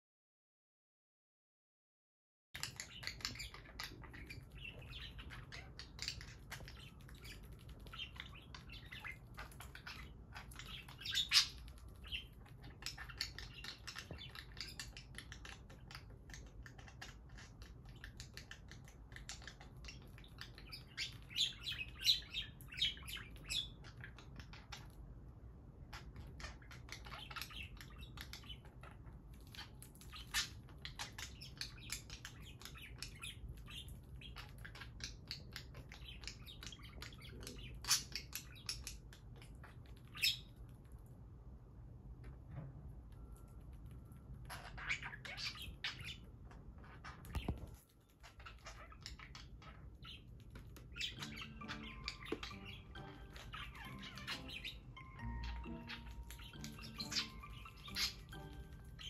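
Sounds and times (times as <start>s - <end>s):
budgerigars chirping and warbling: 2.6s - 40.9s, 43.1s - 59.0s.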